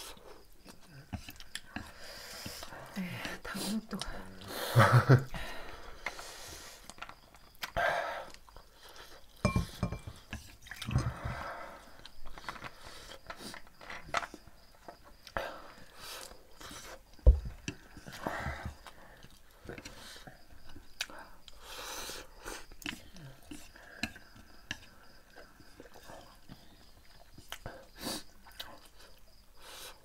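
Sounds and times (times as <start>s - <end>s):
chewing noodles: 0.0s - 2.8s, 5.7s - 9.4s, 10.2s - 30.0s.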